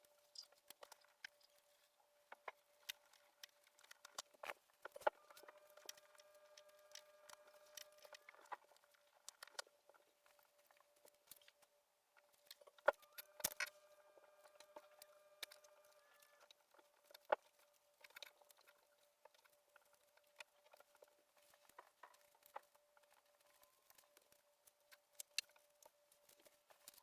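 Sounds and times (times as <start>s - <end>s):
small clicks: 2.3s - 9.7s, 12.3s - 27.0s.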